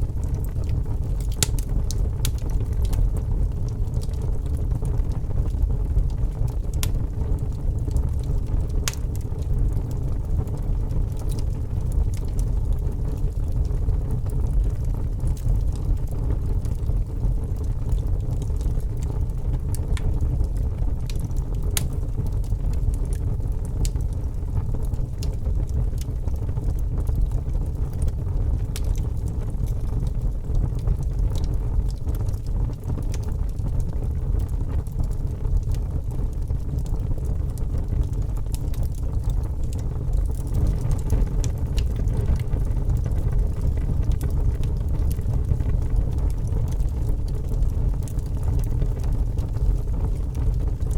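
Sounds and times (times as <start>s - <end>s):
fire flames rumbling: 0.0s - 50.9s
wood crackling and popping: 0.0s - 50.9s.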